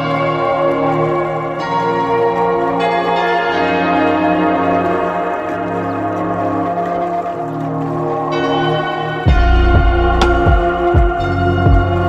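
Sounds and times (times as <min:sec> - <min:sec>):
music of held layered tones: 0:00.0 - 0:12.0.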